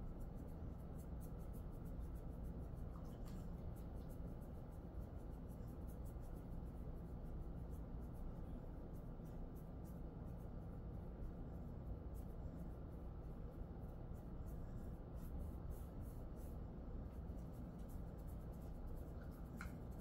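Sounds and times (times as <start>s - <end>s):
fingers rubbing through dog fur: 0.0s - 20.0s
steady low hum: 0.0s - 20.0s.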